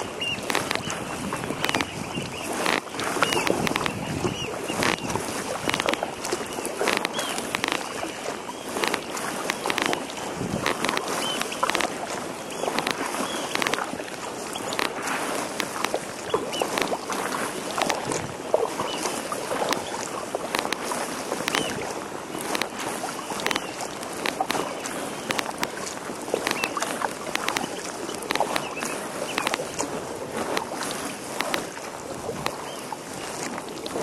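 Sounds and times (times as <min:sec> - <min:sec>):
water drips: 0:00.0 - 0:34.0
water splashing around a kayak: 0:00.0 - 0:34.0.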